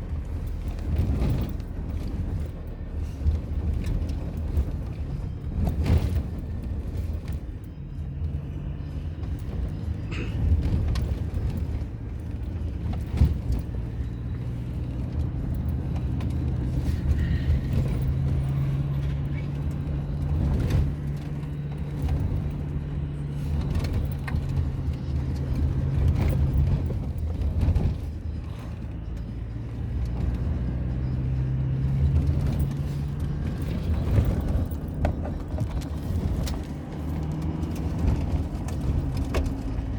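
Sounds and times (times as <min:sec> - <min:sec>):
car engine droning: 0:00.0 - 0:39.9
road rumble: 0:00.0 - 0:39.9.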